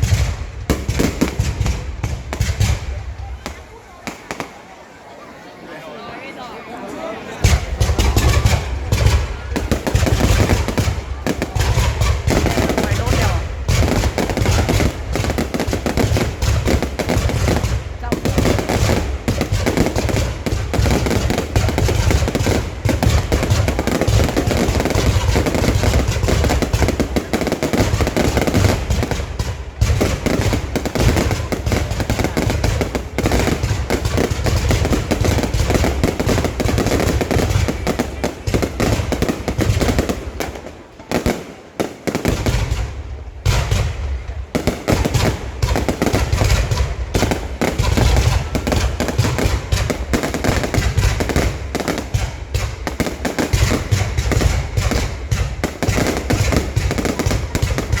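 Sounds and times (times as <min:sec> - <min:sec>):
fireworks bangs and crackling: 0:00.0 - 0:05.4, 0:07.2 - 0:58.0.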